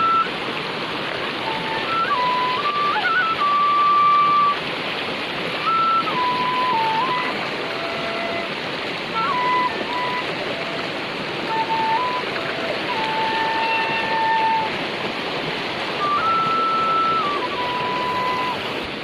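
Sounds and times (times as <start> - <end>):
flute playing slow melody: 0.0 - 0.4, 1.3 - 4.7, 5.6 - 18.8
loud water noise: 0.0 - 19.0.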